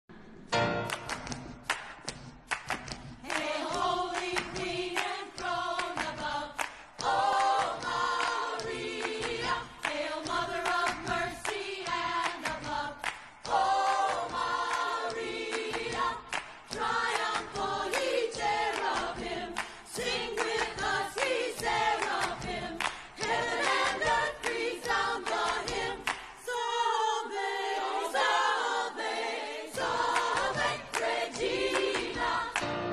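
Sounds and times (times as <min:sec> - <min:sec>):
choir singing: 0:03.2 - 0:32.9.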